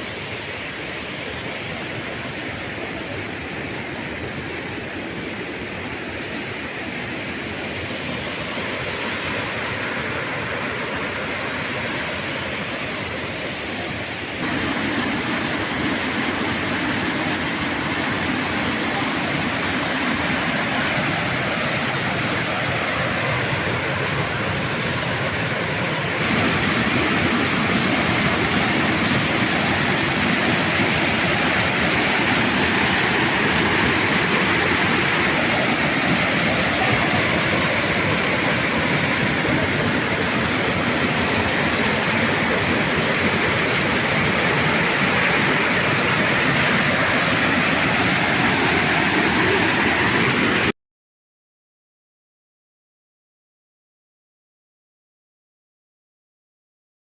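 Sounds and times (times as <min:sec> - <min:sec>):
waterfall rushing: 0:00.0 - 0:50.7.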